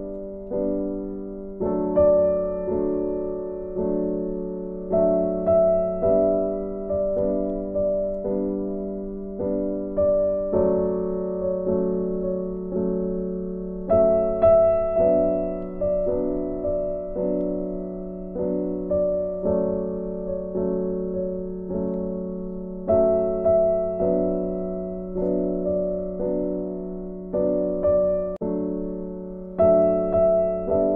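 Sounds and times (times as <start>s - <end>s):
slow gentle instrumental music: 0.0s - 30.9s.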